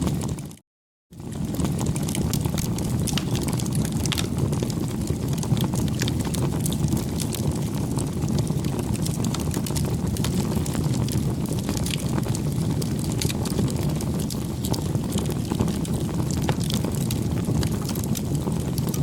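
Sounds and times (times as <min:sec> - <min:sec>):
campfire low rumble: 0:00.0 - 0:19.0
fire crackles and pops: 0:00.0 - 0:19.0.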